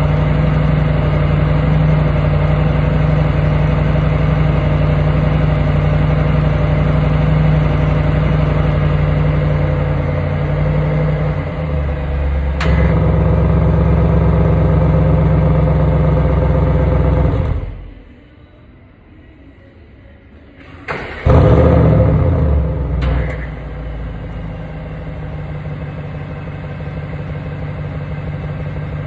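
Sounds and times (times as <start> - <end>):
car engine idling: 0.0 - 18.0, 20.9 - 29.0.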